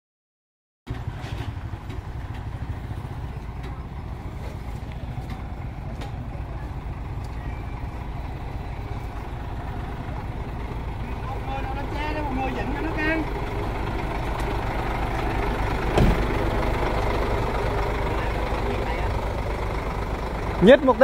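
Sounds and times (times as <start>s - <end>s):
diesel truck engine idling: 0.9s - 21.0s.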